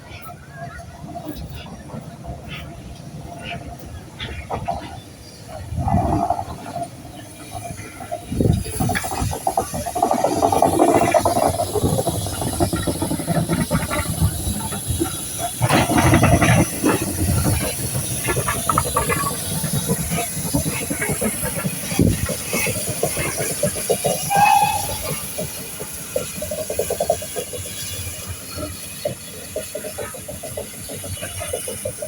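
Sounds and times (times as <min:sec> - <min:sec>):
steam locomotive hissing: 0:00.0 - 0:32.0.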